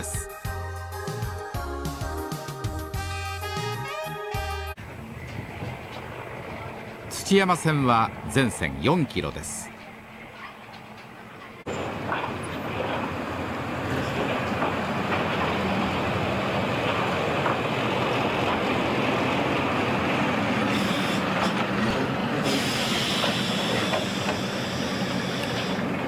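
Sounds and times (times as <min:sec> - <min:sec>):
diesel locomotive engine running: 0:00.0 - 0:26.0
rumble of wheels on rails: 0:04.8 - 0:26.0.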